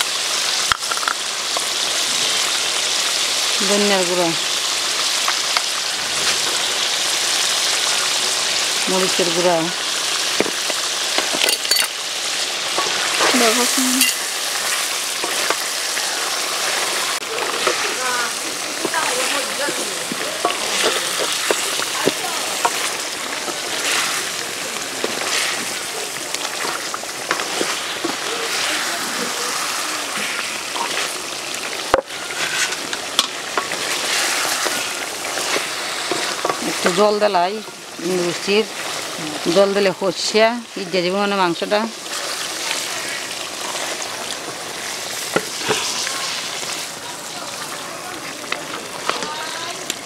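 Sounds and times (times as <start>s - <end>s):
meat sizzling in a pan: 0.0s - 50.0s.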